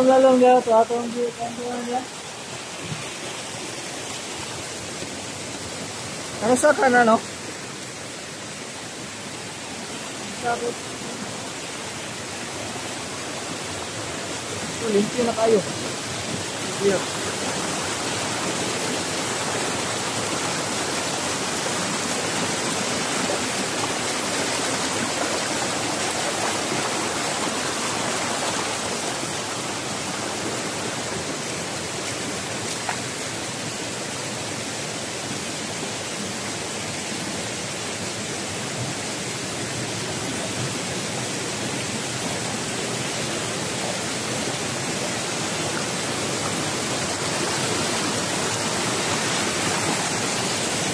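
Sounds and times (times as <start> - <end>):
stream rushing over boulders: 0.0 - 50.9.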